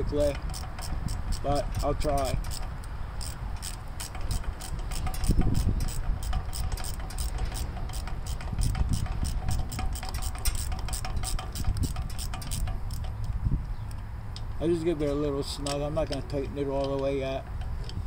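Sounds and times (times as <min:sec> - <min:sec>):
small metal clicks: 0:00.2 - 0:18.0.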